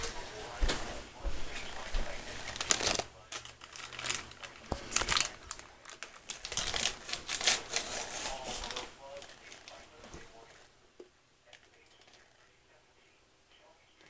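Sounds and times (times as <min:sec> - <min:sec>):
quiet voice: 0:00.0 - 0:10.7, 0:11.4 - 0:14.0
rustling and crinkling: 0:00.0 - 0:10.8, 0:11.5 - 0:12.6.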